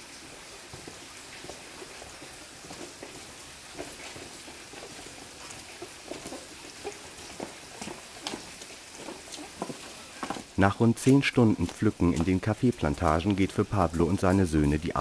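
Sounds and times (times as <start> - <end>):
footsteps on dirt path: 0.0 - 14.8
steady outdoor hiss: 0.0 - 15.0.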